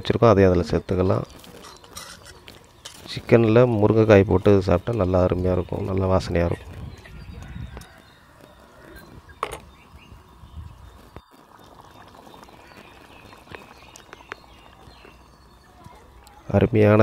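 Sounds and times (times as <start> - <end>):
pot faintly bubbling: 0.0 - 16.5
quiet outdoor background: 0.0 - 17.0.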